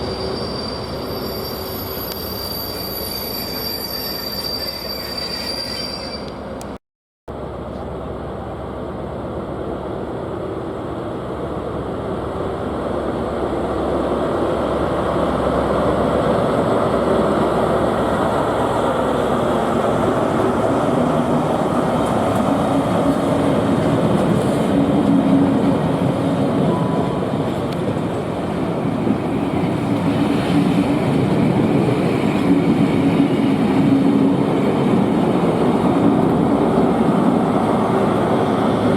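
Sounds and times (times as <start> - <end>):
train rumble: 6.3 - 38.9.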